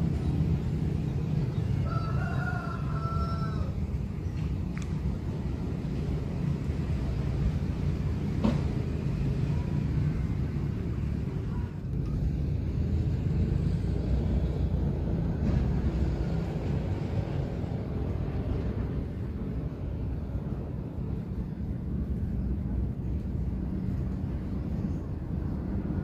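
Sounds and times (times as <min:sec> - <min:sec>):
steady low rumble: 0:03.6 - 0:26.0.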